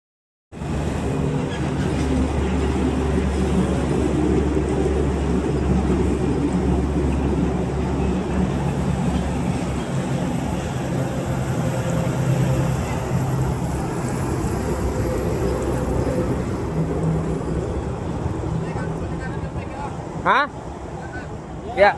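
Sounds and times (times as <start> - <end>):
diesel truck engine rumbling: 1.0 - 21.9.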